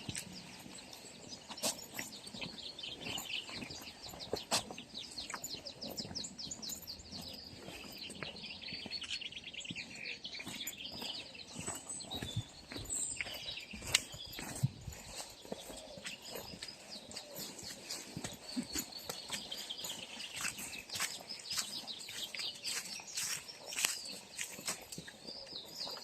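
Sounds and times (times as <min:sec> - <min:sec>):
footsteps crunching: 0:00.0 - 0:26.0
songbirds chirping: 0:00.0 - 0:26.0.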